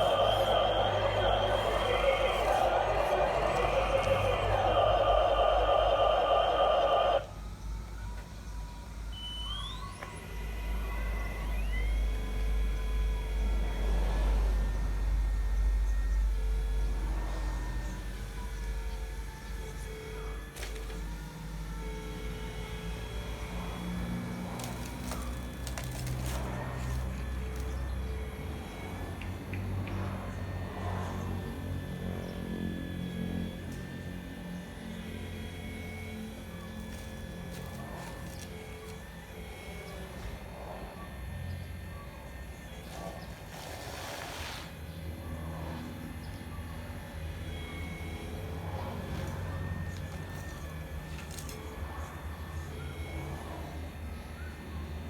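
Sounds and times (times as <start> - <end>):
hydraulic pump whining: 0.0 - 54.2.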